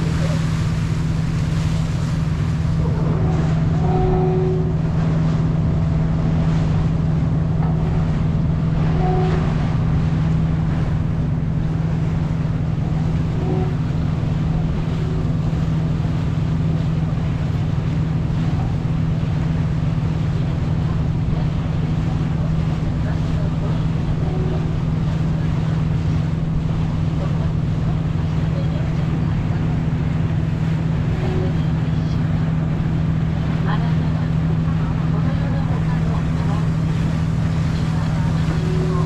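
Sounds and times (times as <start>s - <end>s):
boat engine droning: 0.0s - 39.0s
rushing water: 0.0s - 39.0s
wind: 0.0s - 39.0s.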